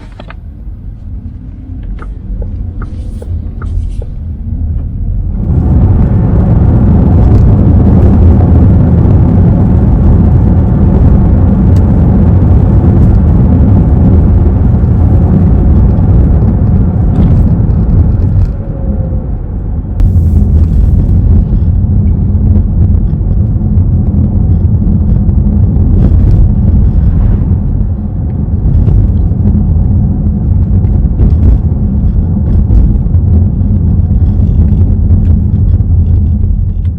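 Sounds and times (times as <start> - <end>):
car road and tyre noise: 0.0 - 36.9.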